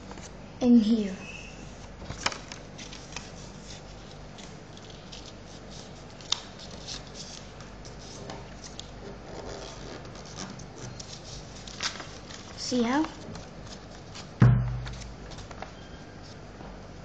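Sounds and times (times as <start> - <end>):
paper rustling and crackling: 1.6 - 16.4.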